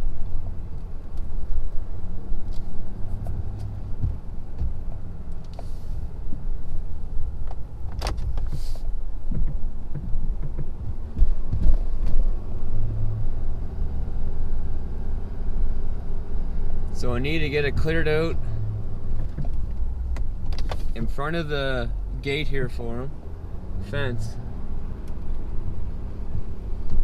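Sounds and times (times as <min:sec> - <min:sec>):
diesel engine rumbling under load: 0:00.0 - 0:27.0.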